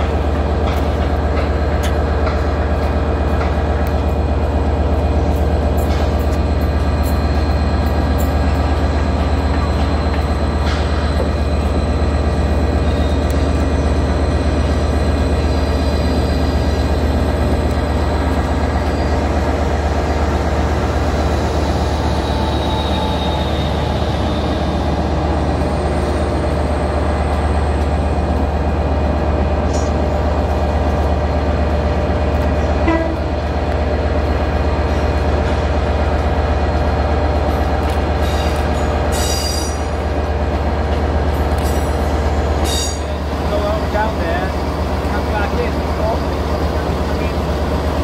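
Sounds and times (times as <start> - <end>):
diesel train engines humming: 0.0 - 48.0.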